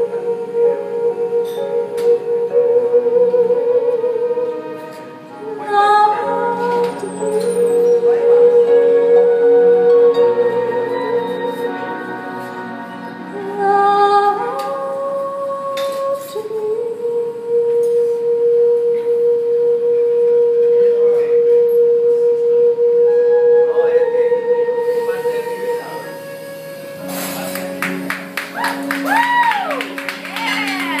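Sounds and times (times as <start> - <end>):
woman singing into a microphone: 0.0 - 26.1.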